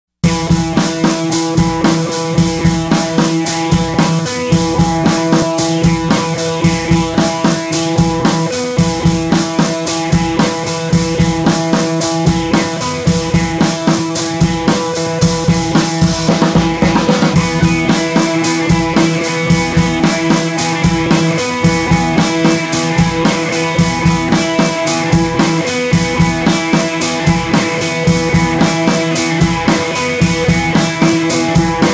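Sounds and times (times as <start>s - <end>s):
rock drum beat: 0.2s - 31.9s.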